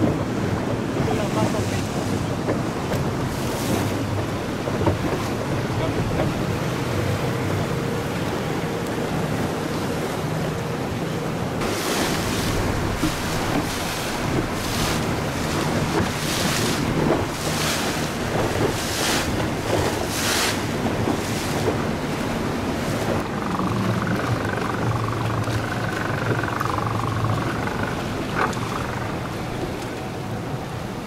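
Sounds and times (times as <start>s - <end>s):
outboard motor droning: 0.0s - 31.0s
water rushing past hull: 0.0s - 31.0s
wind buffeting microphone: 0.0s - 31.0s.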